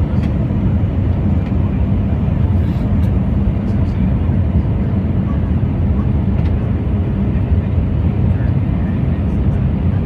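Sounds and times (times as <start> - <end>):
jet airliner rumble: 0.0 - 10.0.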